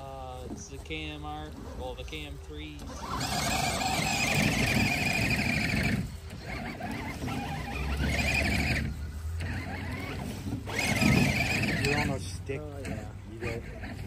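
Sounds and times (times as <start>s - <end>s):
rc car motor whining: 2.7s - 14.0s.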